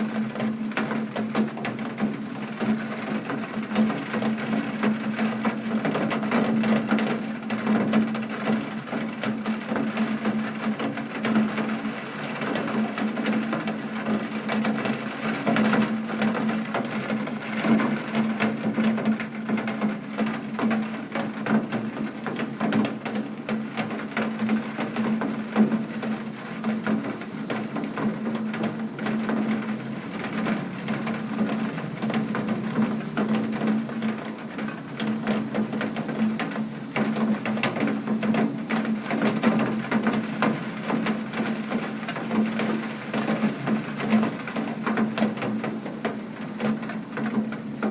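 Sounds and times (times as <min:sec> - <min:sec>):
rain on a hard surface: 0:00.0 - 0:47.9.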